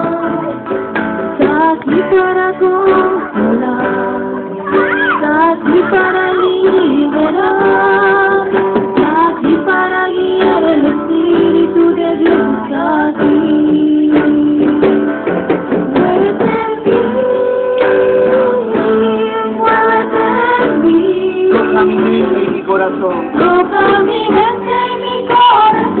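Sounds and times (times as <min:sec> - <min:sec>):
woman singing: 0:00.0 - 0:00.8, 0:01.4 - 0:15.3, 0:15.9 - 0:22.4, 0:23.4 - 0:26.0
acoustic guitar strummed: 0:00.0 - 0:26.0.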